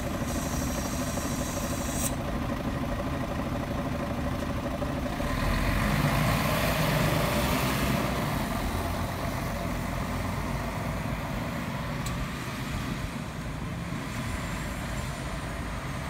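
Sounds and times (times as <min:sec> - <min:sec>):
bus pulling away: 0:00.0 - 0:16.0
street traffic noise: 0:00.0 - 0:16.0.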